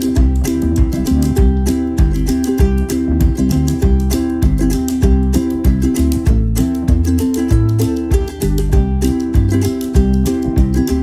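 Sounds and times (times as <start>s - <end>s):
plucked-string instrumental music: 0.0s - 11.0s.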